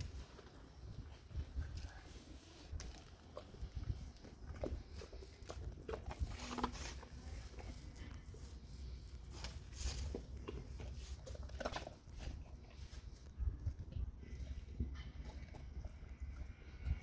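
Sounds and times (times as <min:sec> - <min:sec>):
dog eating treats: 0:00.0 - 0:17.0.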